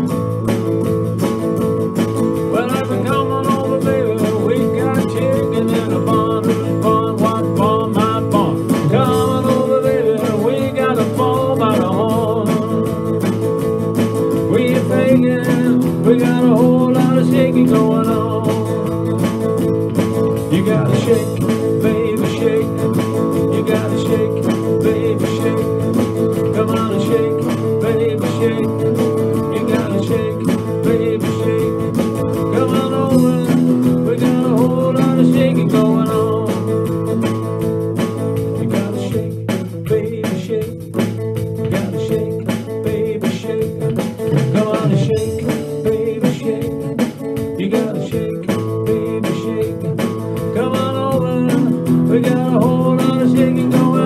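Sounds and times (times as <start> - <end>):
electric guitar rock song: 0.0 - 54.0
man singing: 0.0 - 54.0.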